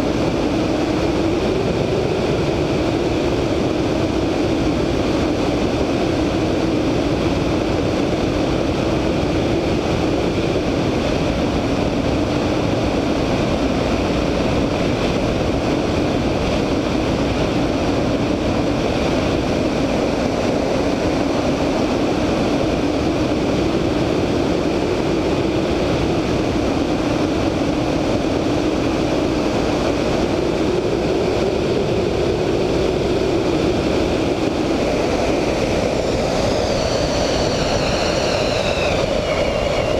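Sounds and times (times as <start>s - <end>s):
airflow rushing over microphone: 0.0s - 39.9s
radial aircraft engine running: 0.0s - 39.9s.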